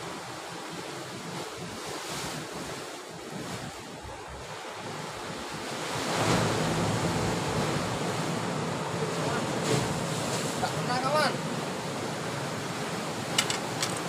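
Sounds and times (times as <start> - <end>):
waves breaking against rocks: 0.0 - 14.0.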